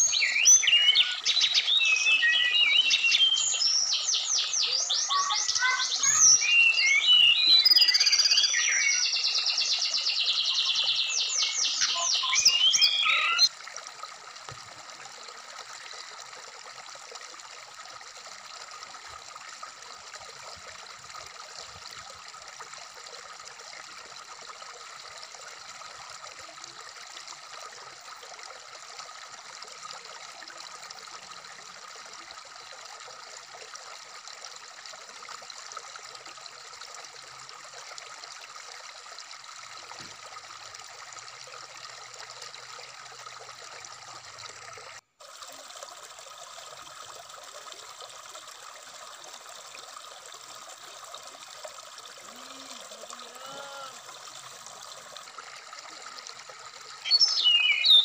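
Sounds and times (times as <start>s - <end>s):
stream babbling over rocks: 0.0s - 9.7s, 10.5s - 28.0s, 31.0s - 58.0s.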